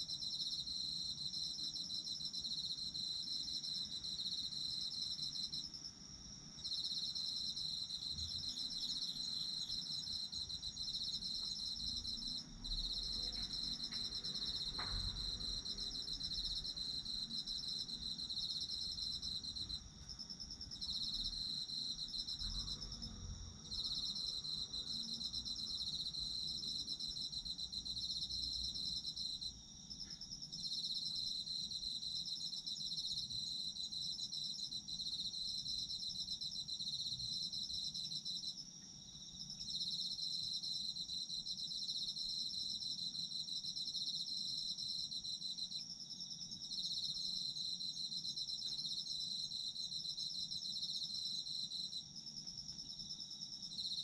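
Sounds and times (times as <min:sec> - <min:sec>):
high insect trill: 0:00.0 - 0:54.0
low insect trill: 0:00.0 - 0:54.0.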